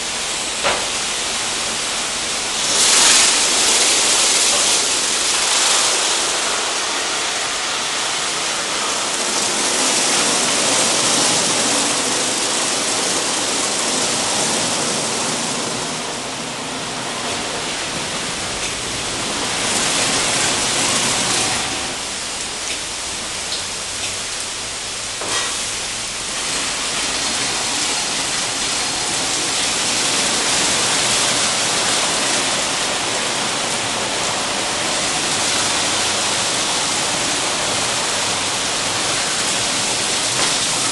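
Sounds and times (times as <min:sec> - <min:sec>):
car wash spray and brushes: 0:00.0 - 0:40.9.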